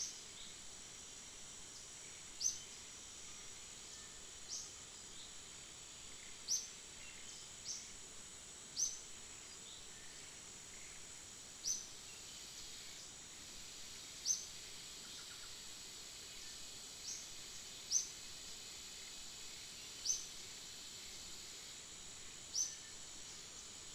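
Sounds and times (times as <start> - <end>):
high insect drone: 0.0 - 23.9.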